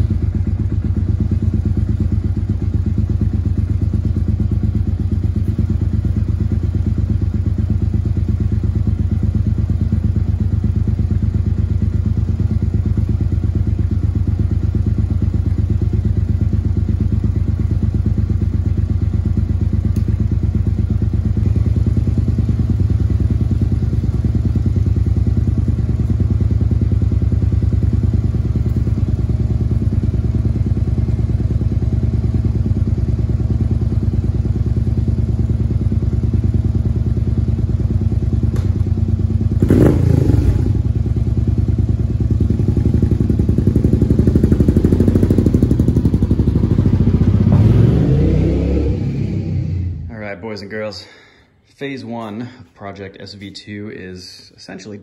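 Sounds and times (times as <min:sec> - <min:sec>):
motorcycle engine idling: 0:00.0 - 0:52.8.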